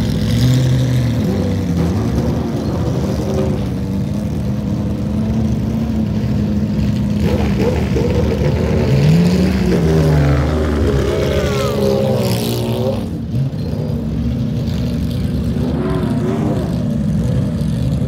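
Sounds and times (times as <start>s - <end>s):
race car engine running: 0.0s - 18.0s.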